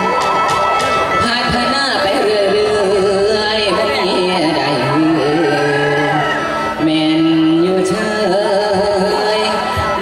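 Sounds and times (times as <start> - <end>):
folk band playing: 0.0 - 10.0
voice holding long notes: 1.0 - 10.0.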